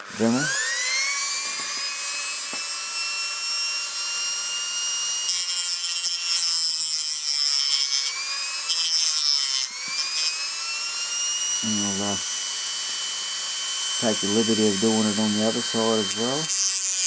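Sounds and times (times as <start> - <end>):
rotary tool grinding metal: 0.0 - 17.0
rotary tool whining: 0.0 - 17.0.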